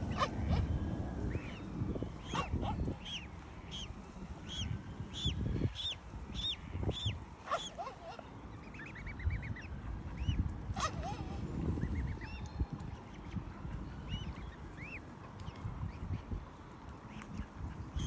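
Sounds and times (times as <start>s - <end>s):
swan cygnets peeping: 0.0s - 16.4s.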